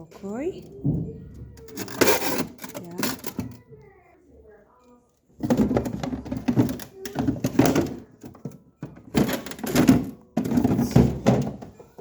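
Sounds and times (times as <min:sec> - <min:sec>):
items clattering in a freezer: 0:00.0 - 0:03.7, 0:05.3 - 0:12.0.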